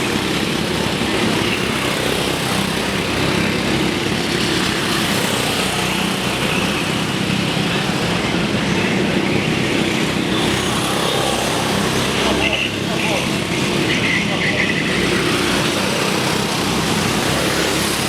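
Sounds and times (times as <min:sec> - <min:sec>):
racing kart engines buzzing: 0:00.0 - 0:18.0.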